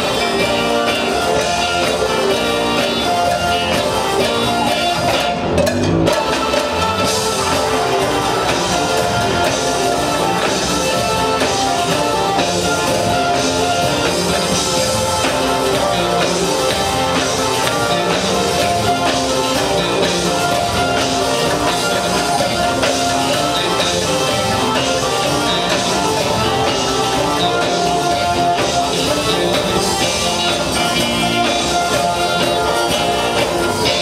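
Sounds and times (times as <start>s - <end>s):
drum kit: 0.0s - 34.0s
electric bass: 0.0s - 34.0s
electric guitar: 0.0s - 34.0s
gospel band playing: 0.0s - 34.0s
keyboards: 0.0s - 34.0s.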